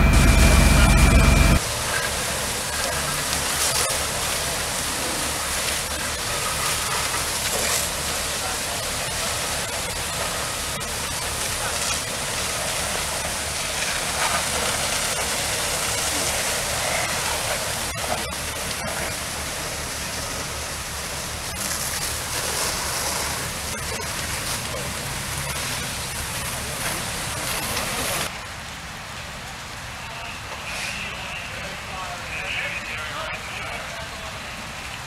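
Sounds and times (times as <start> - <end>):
water spraying from hoses: 0.0 - 28.3, 29.8 - 35.0.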